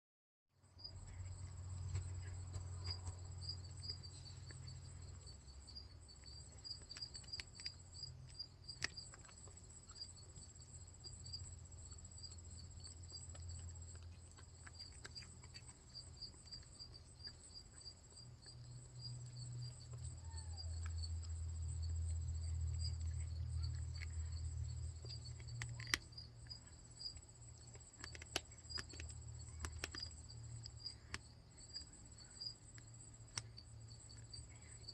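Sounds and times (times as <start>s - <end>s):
cat chewing claws crunchy clicks: 1.0s - 20.0s, 20.9s - 34.9s.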